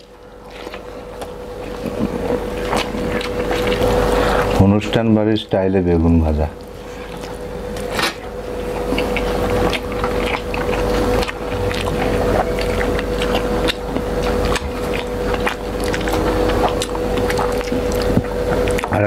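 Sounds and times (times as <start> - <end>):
chewing: 0.0 - 4.6, 6.6 - 19.0.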